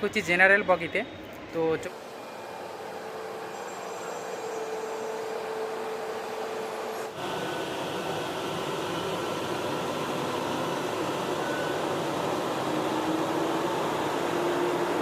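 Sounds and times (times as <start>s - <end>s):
train mechanical hum and hiss: 0.0s - 15.0s.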